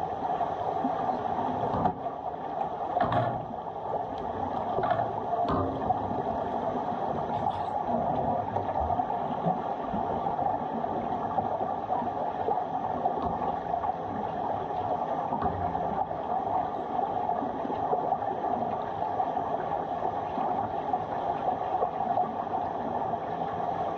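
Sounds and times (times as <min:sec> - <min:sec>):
underwater pool water hiss and gurgle: 0:00.0 - 0:23.9.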